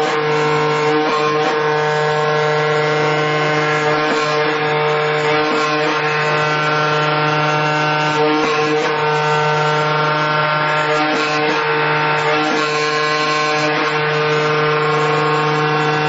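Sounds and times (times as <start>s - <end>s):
cutting noise: 0.0s - 16.0s
machine hum: 0.0s - 16.0s.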